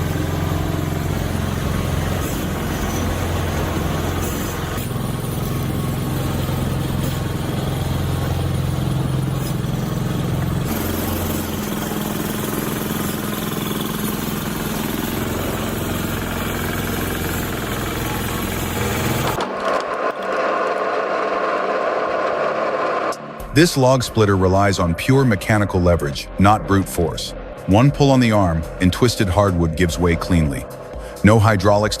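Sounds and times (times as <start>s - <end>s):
firewood splitter engine running: 0.0s - 32.0s.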